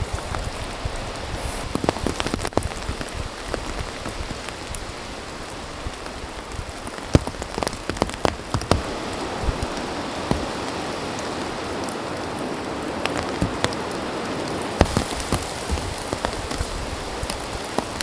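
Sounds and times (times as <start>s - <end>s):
heavy raindrops tapping: 0.0s - 18.0s
steady rain: 0.0s - 18.0s.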